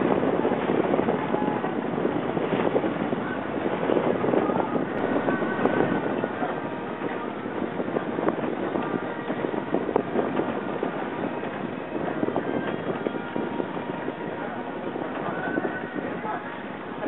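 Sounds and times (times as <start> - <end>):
boat running: 0.0 - 17.0
wind buffeting microphone: 0.0 - 17.0.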